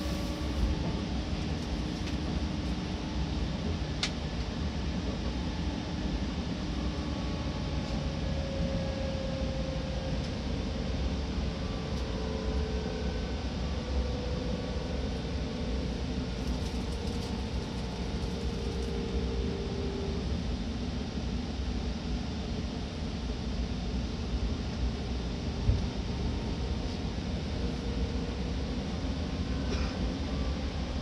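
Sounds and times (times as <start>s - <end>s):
train rumbling from inside: 0.0s - 31.0s.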